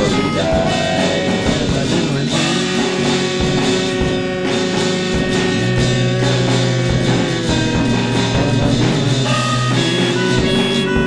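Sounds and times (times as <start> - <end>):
instrumental rock music: 0.0 - 11.0.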